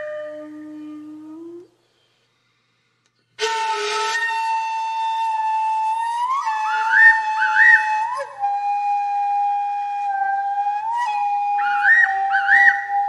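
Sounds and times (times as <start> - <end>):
flute music: 0.0 - 1.7, 3.4 - 13.0.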